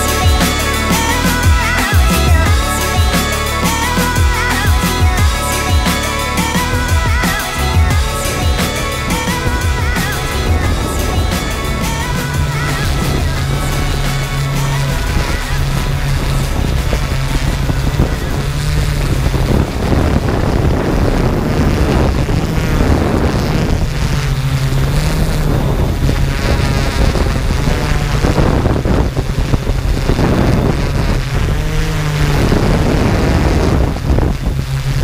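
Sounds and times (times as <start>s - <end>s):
drone motors and propellers humming: 0.0s - 35.0s
wind rushing over microphone: 0.0s - 35.0s.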